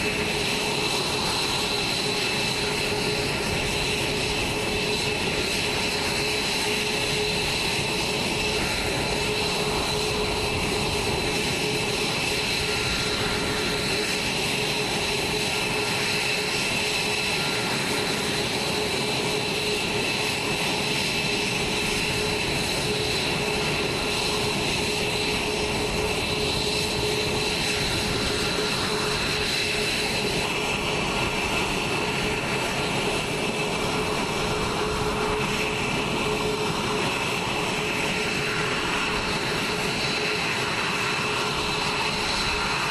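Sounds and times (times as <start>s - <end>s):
high turbine whine: 0.0s - 42.9s
jet engines running: 0.0s - 42.9s.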